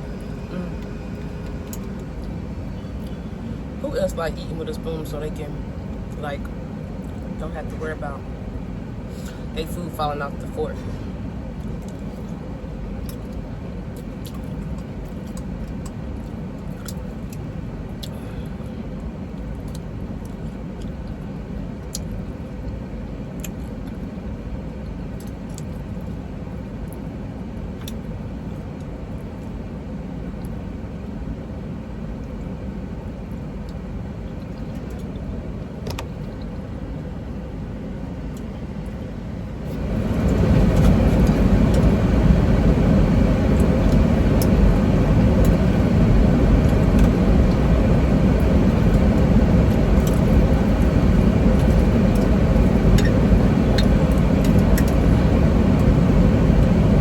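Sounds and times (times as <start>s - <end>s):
truck engine idling rumble: 0.0s - 31.8s, 32.4s - 57.0s.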